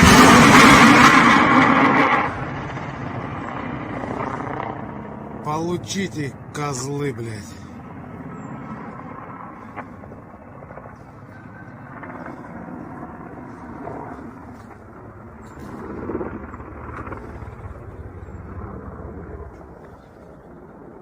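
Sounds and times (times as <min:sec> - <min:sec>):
helicopter drone: 0:00.0 - 0:21.0.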